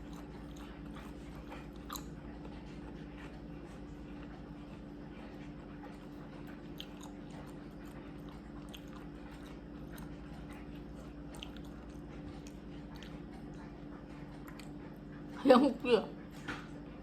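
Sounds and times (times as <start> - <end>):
person chewing and crunching food: 0.0 - 15.4
steady low hum: 0.0 - 17.0.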